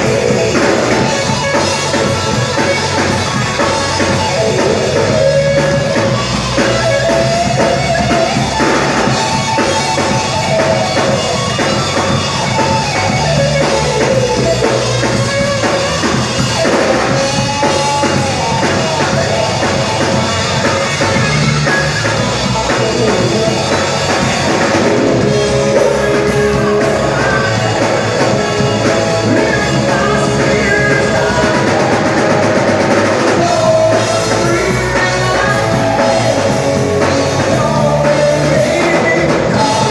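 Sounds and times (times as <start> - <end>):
lead guitar bending notes: 0.0 - 39.9
rock band playing: 0.0 - 39.9.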